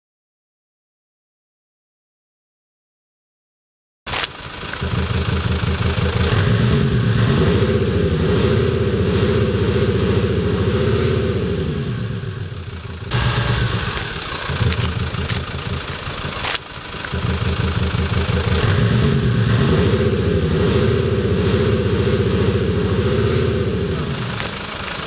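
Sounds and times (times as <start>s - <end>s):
electronic engine sound revving: 4.1s - 25.0s.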